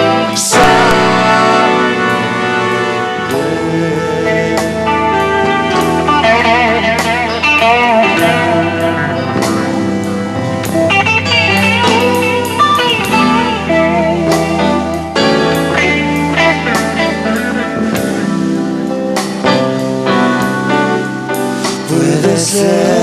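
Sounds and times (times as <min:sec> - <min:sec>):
bass and drums: 0:00.0 - 0:23.0
lead guitar bent notes: 0:00.0 - 0:23.0.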